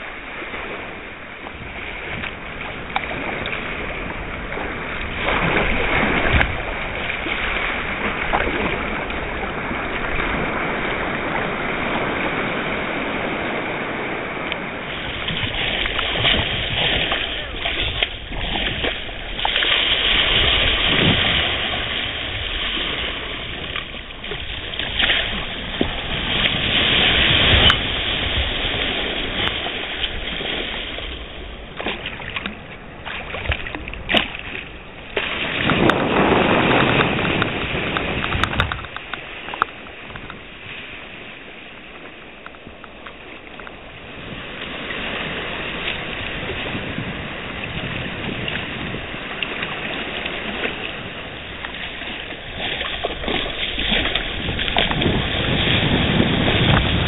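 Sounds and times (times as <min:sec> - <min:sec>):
sea water splashing around kayak: 0:00.0 - 0:57.0.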